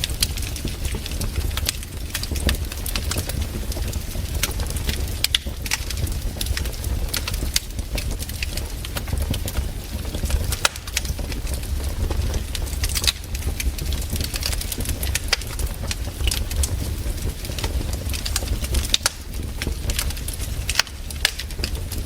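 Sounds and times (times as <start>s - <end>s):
campfire crackling: 0.0s - 22.0s
fire snaps and pops: 0.0s - 22.0s.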